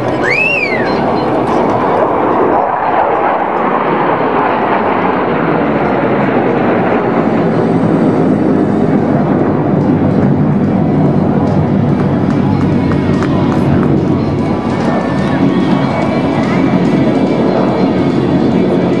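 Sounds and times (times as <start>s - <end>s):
fighter jets flying overhead: 0.0s - 19.0s.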